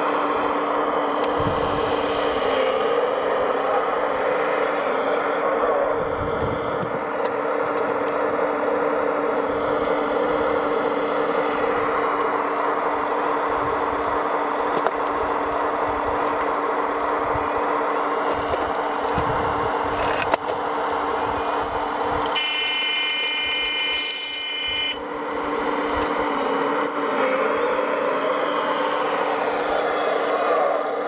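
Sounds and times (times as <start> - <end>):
model vehicle motor humming: 0.0 - 31.0.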